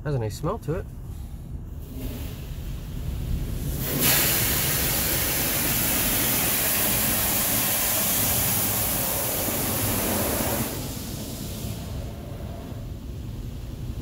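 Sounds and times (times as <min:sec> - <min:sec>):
water spraying on van: 0:01.8 - 0:14.0.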